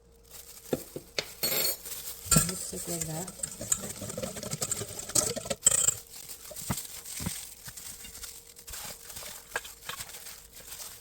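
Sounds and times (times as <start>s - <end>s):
crinkling and handling noise: 0.0s - 11.0s.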